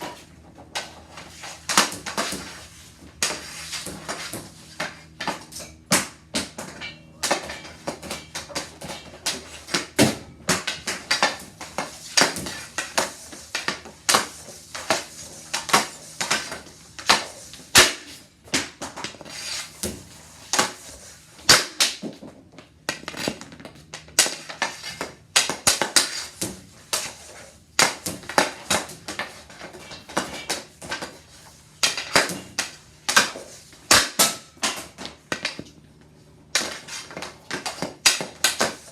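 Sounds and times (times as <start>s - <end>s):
hockey stick and puck clacking: 0.0s - 38.9s.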